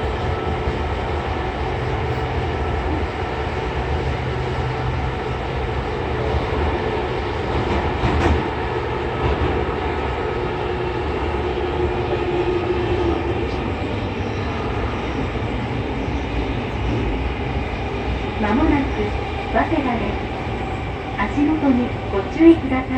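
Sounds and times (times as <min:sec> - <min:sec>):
train wheel and rail rumble: 0:00.0 - 0:22.9.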